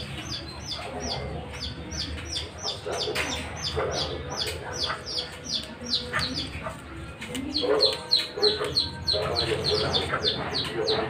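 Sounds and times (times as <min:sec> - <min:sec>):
bird chirping: 0:00.0 - 0:06.7, 0:07.5 - 0:11.0.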